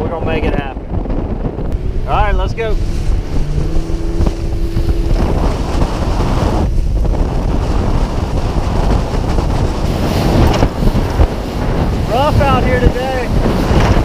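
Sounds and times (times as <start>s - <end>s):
wind buffeting microphone: 0.0s - 14.0s
rushing water: 1.7s - 14.0s.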